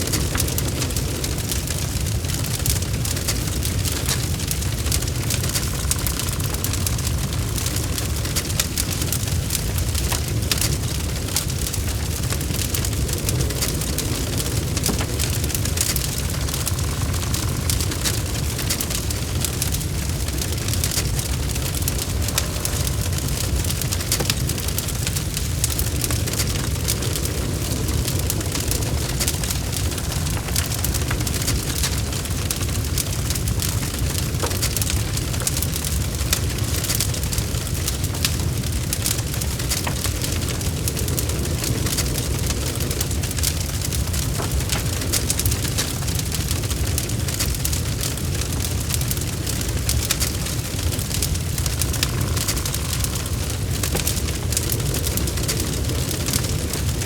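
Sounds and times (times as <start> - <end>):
low rumble of flames: 0.0 - 57.0
wood crackling and popping: 0.0 - 57.0.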